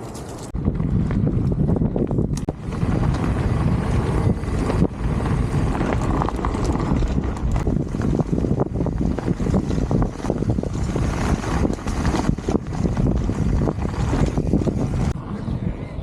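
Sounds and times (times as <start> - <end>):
bike knocks and rattles: 0.0 - 15.2
wind buffeting microphone: 0.0 - 16.0.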